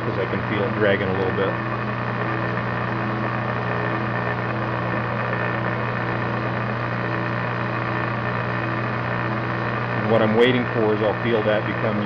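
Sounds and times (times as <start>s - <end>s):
metal lathe humming: 0.0s - 12.0s.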